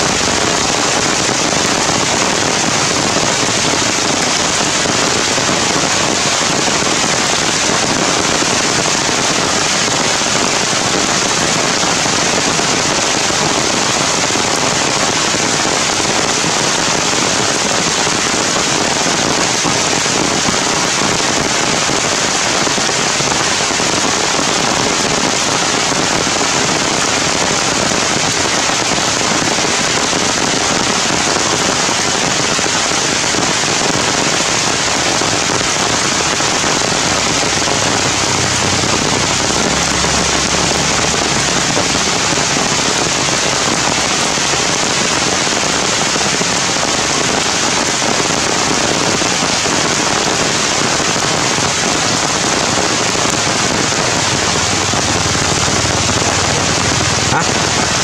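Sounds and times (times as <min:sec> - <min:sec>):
heavy rain on leaves: 0:00.0 - 0:58.0.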